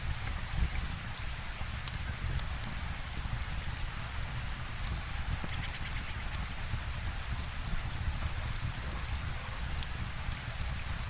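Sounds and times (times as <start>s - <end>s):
steady rainfall: 0.0s - 11.0s
wood fire crackling: 0.0s - 11.0s.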